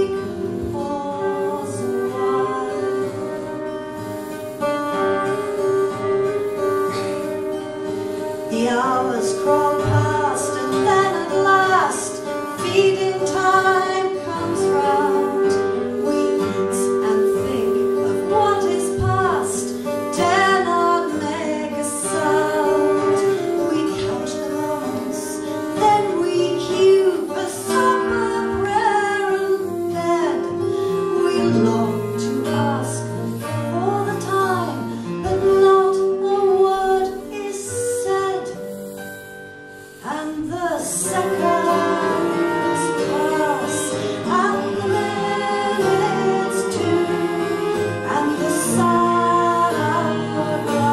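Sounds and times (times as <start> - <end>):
acoustic guitar: 0.0 - 50.9
woman singing: 0.0 - 50.9.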